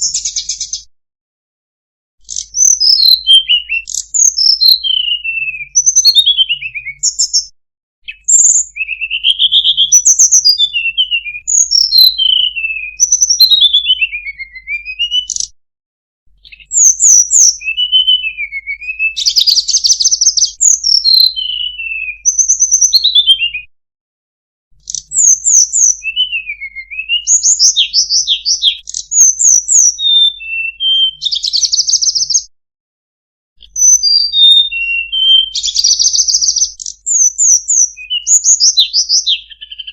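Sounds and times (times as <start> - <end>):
songbird whistling and trilling: 0.0 - 0.9, 2.2 - 15.6, 16.4 - 23.7, 24.8 - 32.5, 33.6 - 39.9.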